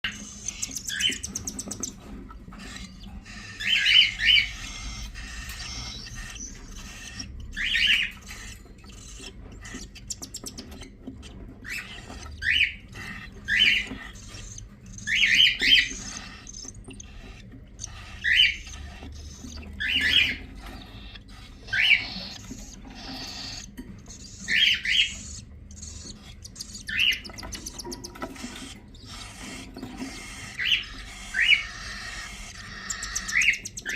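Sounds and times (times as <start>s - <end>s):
cockatiels giving raspy calls: 0.0s - 33.9s.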